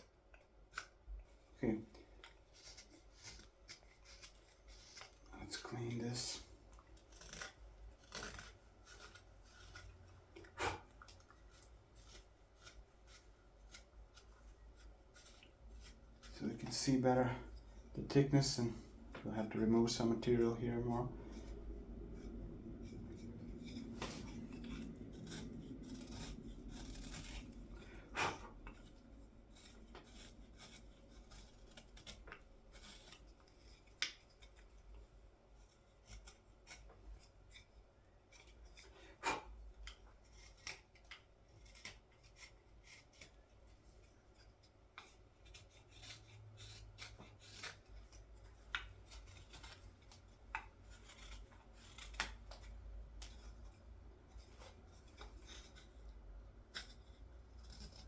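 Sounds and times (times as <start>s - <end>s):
knife slicing and scraping wood: 0.0s - 58.0s.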